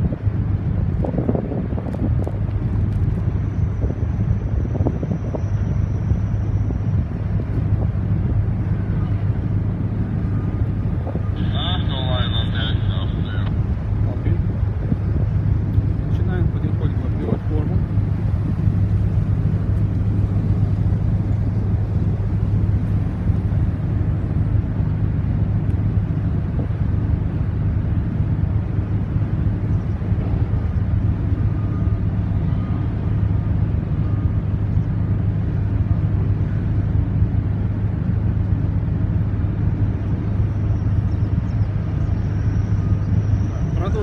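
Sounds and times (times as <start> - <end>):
deep machinery hum: 0.0 - 44.0.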